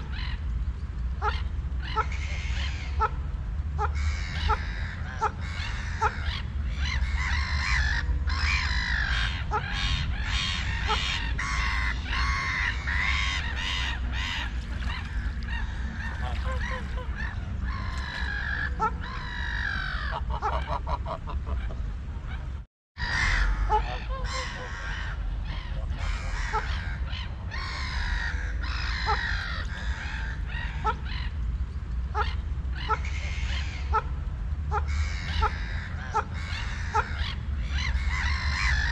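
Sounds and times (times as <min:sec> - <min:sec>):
waterfowl calling: 0:01.2 - 0:21.8, 0:23.0 - 0:31.4, 0:32.1 - 0:38.9.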